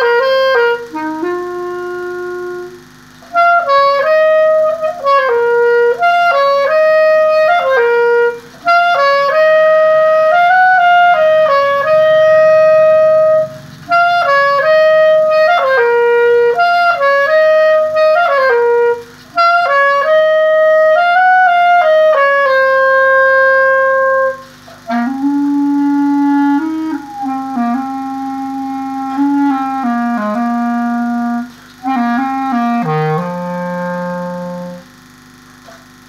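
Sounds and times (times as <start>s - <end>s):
solo clarinet melody: 0.0s - 36.0s.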